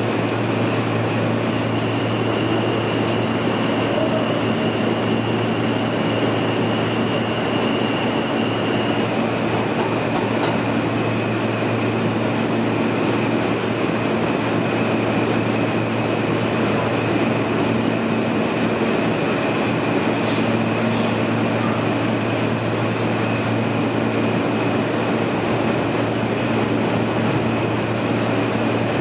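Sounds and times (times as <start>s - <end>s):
wheels rumbling on rail: 0.0s - 29.0s.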